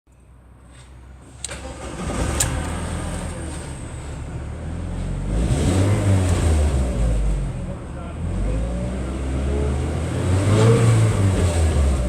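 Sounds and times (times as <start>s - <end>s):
van engine starting and running: 0.3s - 12.0s.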